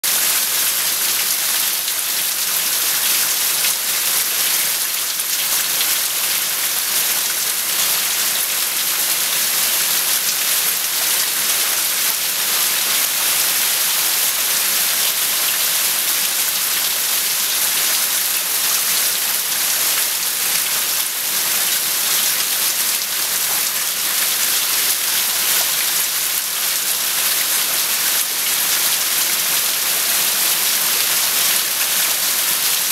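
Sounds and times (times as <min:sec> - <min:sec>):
heavy rain pouring on cars: 0:00.2 - 0:32.9.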